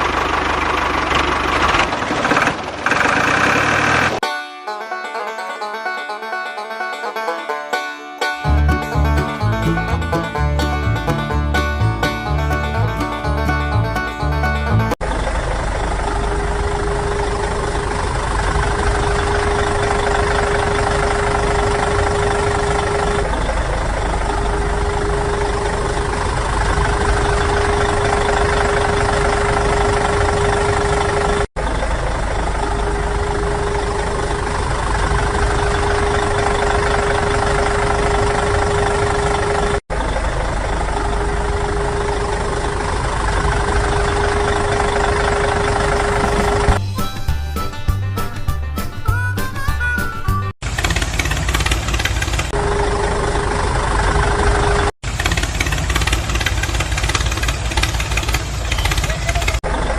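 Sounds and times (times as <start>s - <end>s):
engine running with knocking: 0.0s - 4.2s, 8.4s - 46.8s, 50.6s - 59.9s.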